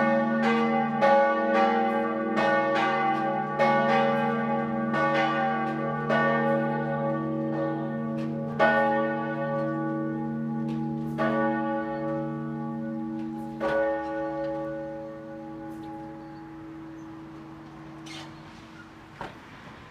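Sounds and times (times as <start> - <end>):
church bells clanging: 0.0 - 19.2.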